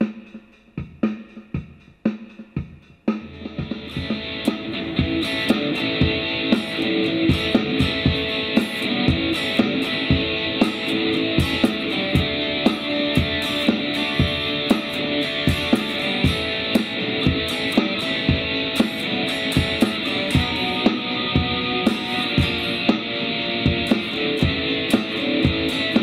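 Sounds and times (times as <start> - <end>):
drum machine beat: 0.0 - 26.0
clean electric guitar strumming: 3.2 - 26.0.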